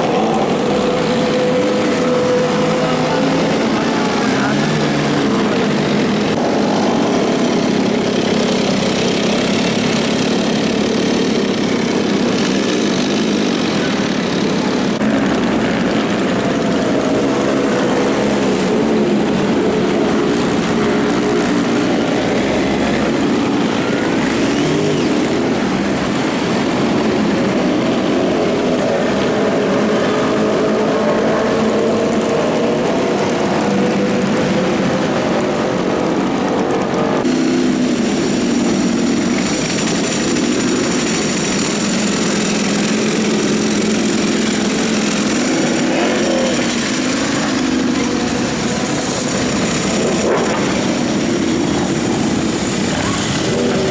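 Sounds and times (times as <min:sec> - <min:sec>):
motorcycle engines revving: 0:00.0 - 0:53.9
road traffic: 0:00.0 - 0:53.9.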